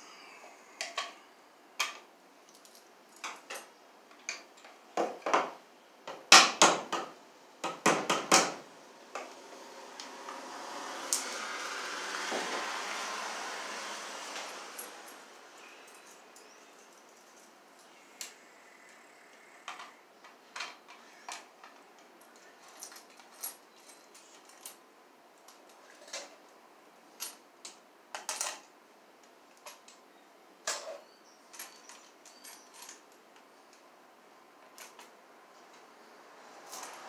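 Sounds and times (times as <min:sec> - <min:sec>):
faint steady hiss: 0:00.0 - 0:37.0.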